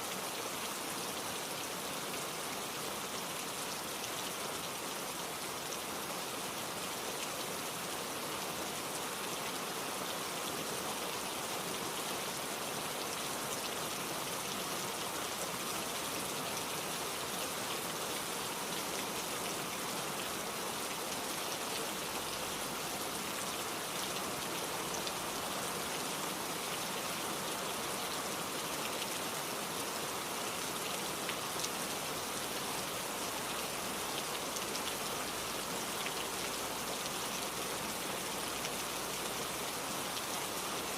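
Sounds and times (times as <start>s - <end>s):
steady rain pattering: 0.0s - 40.9s.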